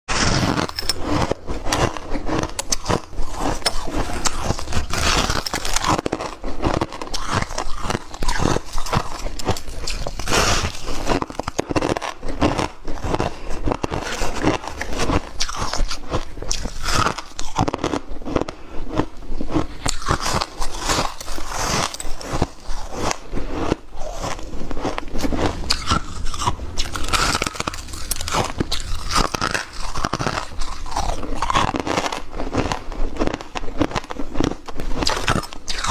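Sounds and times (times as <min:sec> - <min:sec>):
chewing crunchy ice: 0:00.1 - 0:35.9.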